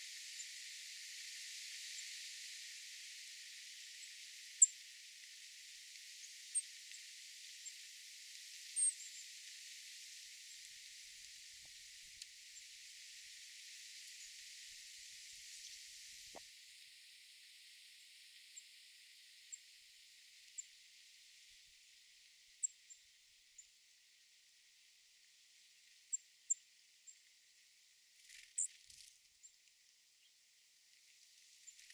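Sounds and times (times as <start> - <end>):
faint steady high hiss: 0.0 - 29.0.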